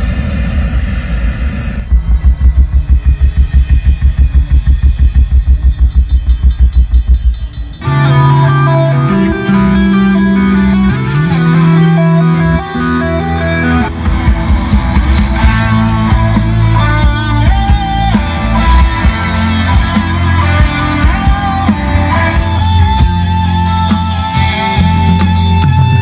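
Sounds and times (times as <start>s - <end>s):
bass and electric guitar riff: 0.0s - 26.0s
drums: 0.0s - 26.0s.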